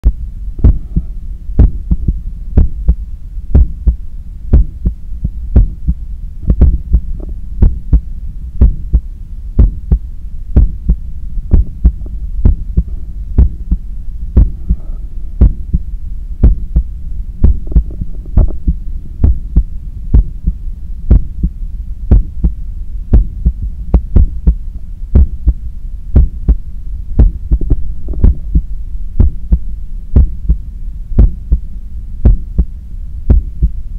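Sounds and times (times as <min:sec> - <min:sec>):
heartbeat through stethoscope: 0:00.0 - 0:25.6, 0:26.2 - 0:26.6, 0:27.2 - 0:29.6, 0:30.2 - 0:30.6, 0:31.2 - 0:32.7, 0:33.3 - 0:33.8
continuous low hum: 0:00.0 - 0:33.9.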